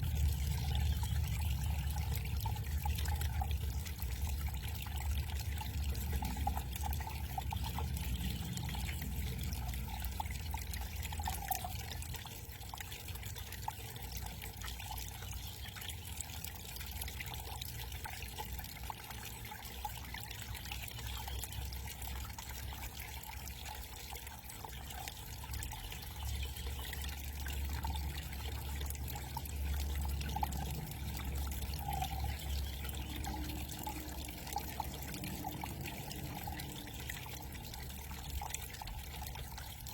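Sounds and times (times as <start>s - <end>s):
small waterfall trickling: 0.0s - 39.9s.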